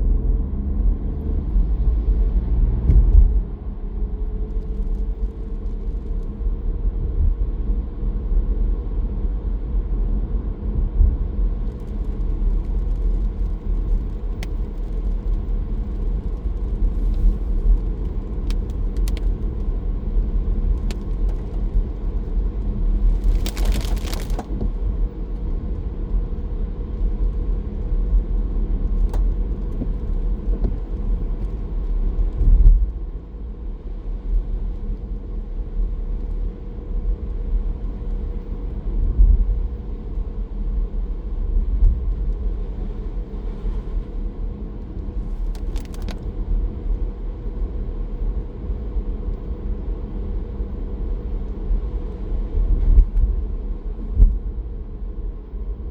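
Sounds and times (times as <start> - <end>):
road and engine rumble: 0.0 - 35.3, 40.6 - 55.8.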